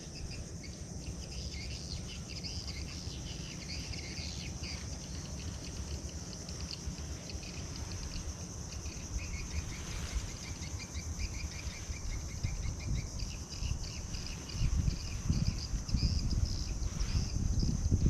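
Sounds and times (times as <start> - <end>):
insects droning and chirping: 0.0 - 18.0.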